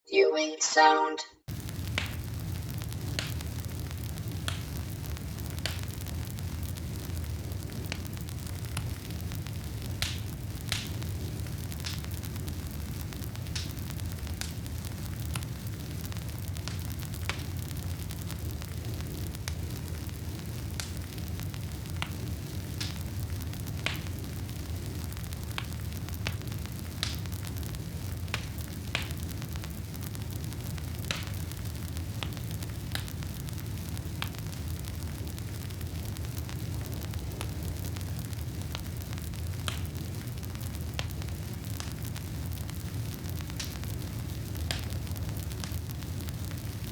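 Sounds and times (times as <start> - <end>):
burning wood crackling and popping: 1.5 - 46.9
campfire flames roaring: 1.5 - 46.9.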